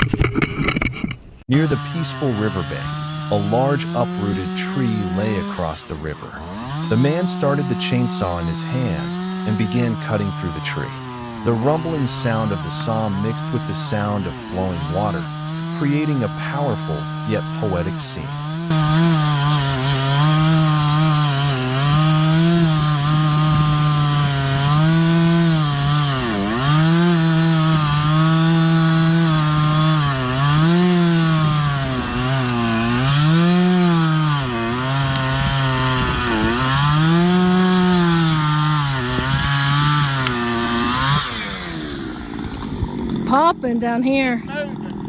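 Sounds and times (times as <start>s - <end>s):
chainsaw cutting wood: 0.3s - 45.0s.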